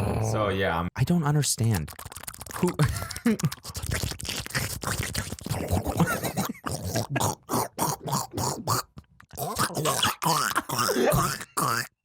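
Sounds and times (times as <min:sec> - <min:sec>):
man making vocal sound effects: 0:00.0 - 0:00.6, 0:01.6 - 0:12.0.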